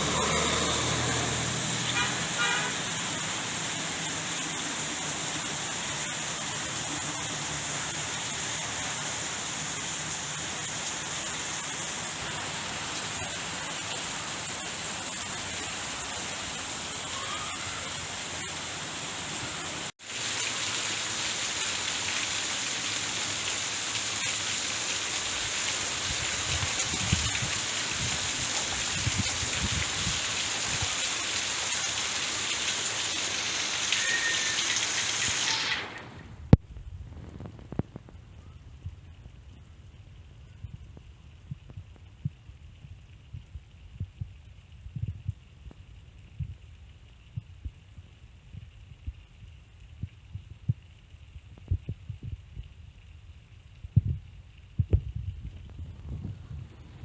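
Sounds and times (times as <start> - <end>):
rain falling on a tent: 0.0 - 57.0.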